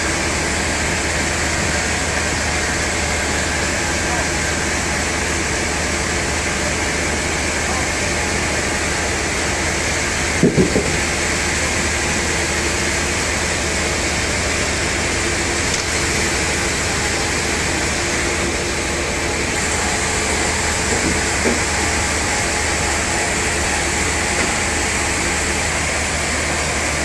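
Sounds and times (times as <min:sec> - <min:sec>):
sawmill saw running: 0:00.0 - 0:27.0.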